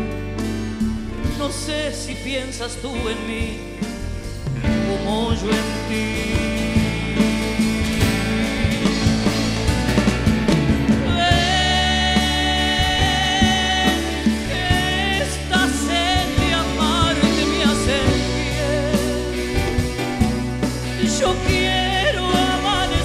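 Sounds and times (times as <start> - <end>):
band playing pop ballad: 0.0 - 23.0.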